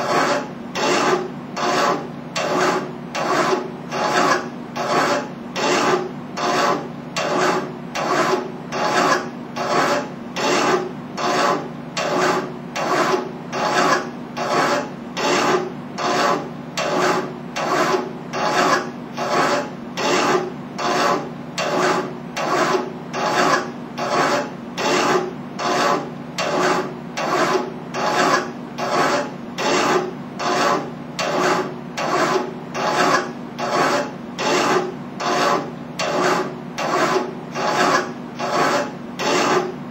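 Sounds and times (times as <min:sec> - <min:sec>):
hand file rasping on metal: 0:00.0 - 0:39.8.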